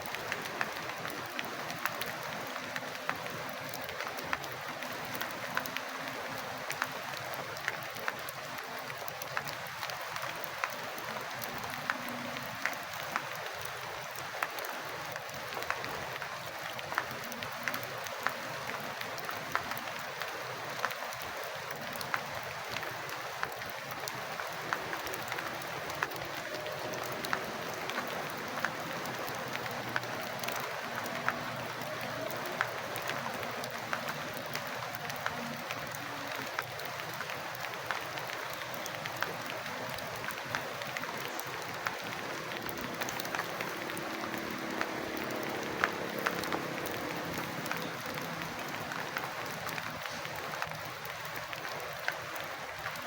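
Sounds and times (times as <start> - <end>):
raindrops ticking on hard surfaces: 0.0 - 53.0
steady rain: 0.0 - 53.0.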